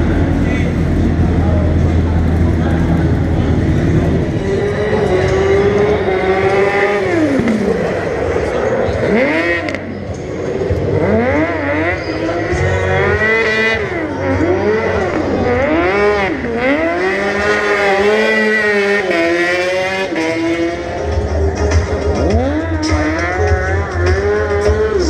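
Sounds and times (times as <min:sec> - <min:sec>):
racing engine revving: 0:00.0 - 0:25.0.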